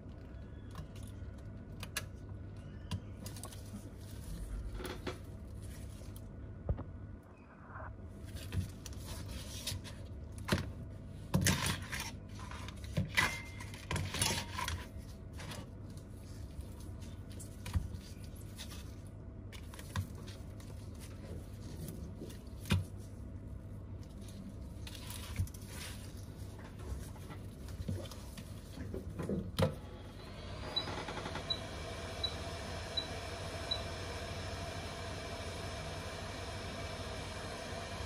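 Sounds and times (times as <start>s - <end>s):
steady low hum: 0.0s - 13.8s, 14.6s - 38.0s.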